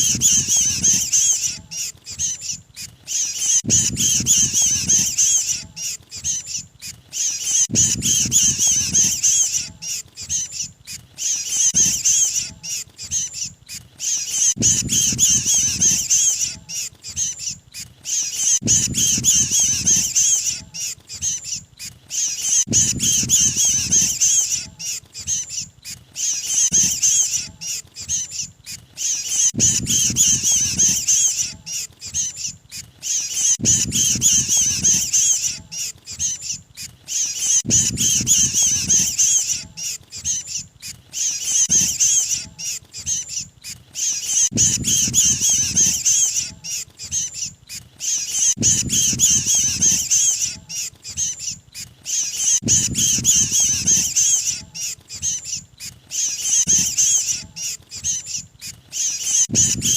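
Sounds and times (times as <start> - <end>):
bird distress squawks: 0.0 - 59.9.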